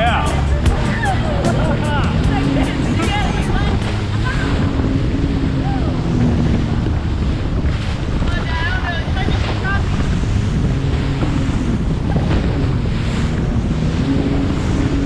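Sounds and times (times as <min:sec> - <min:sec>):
watercraft engine humming: 0:00.0 - 0:15.0
wind buffeting microphone: 0:00.0 - 0:15.0.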